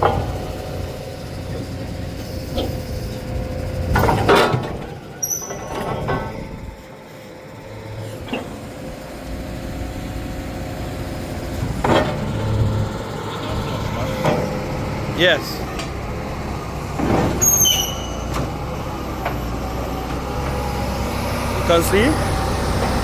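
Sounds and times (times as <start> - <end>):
drilling rig engine hum: 0.0 - 23.0.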